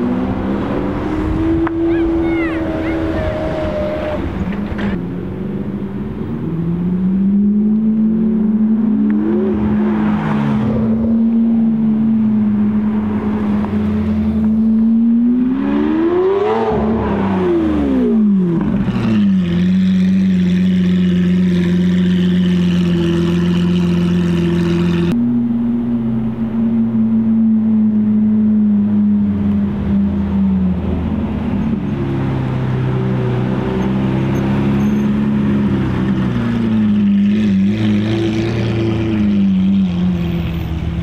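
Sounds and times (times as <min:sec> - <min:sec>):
sports car engine revving: 0:00.0 - 0:41.0.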